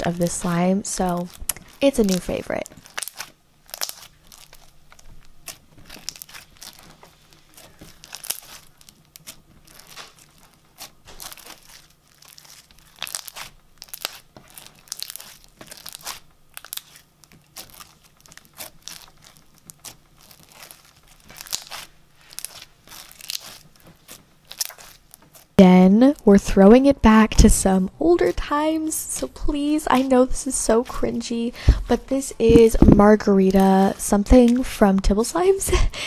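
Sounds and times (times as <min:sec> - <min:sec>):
slime crackling and popping: 0:00.0 - 0:35.5.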